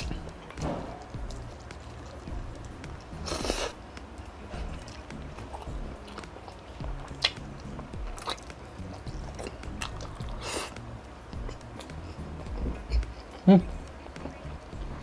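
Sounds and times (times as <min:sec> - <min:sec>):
wet mouth clicks and smacks: 0:00.0 - 0:03.7, 0:04.7 - 0:14.5
close-miked chewing: 0:00.0 - 0:15.0.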